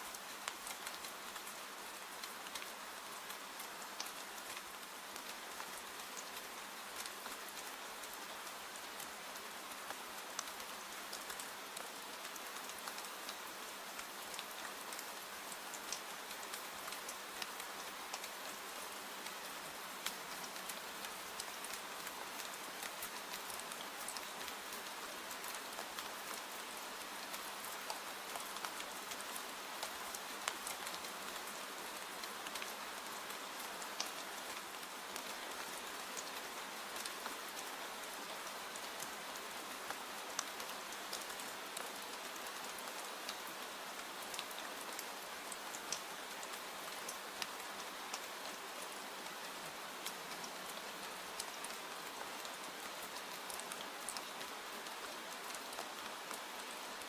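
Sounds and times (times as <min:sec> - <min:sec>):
sharp ticks of raindrops: 0:00.0 - 0:57.0
steady rain falling: 0:00.0 - 0:57.0.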